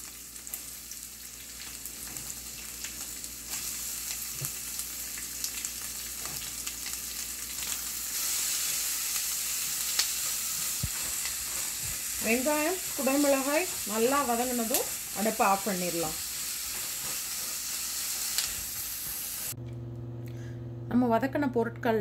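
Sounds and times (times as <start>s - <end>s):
vegetables sizzling in hot oil: 0.0s - 19.6s.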